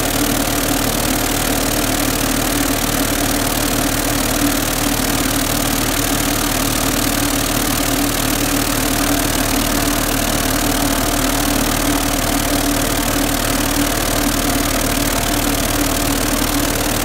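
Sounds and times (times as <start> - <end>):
tumbler motor hum: 0.0 - 17.0.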